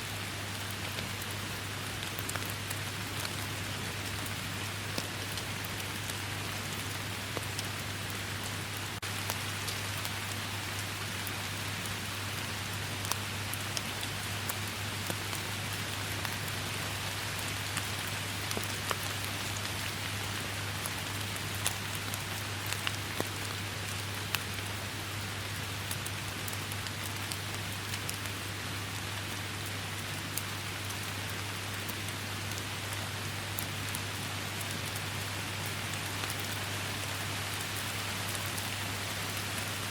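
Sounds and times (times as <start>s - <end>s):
steady rain pouring: 0.0s - 39.9s.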